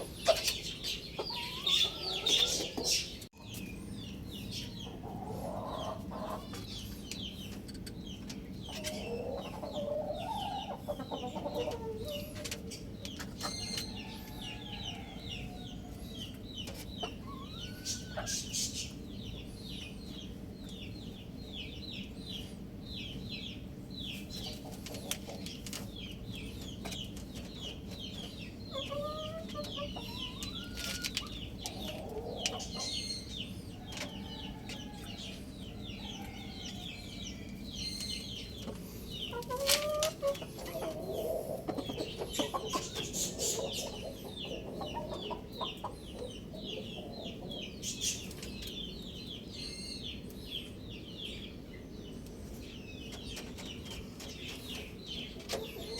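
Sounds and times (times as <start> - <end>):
chickens clucking: 0.0 - 55.9
chicks peeping: 0.0 - 55.9.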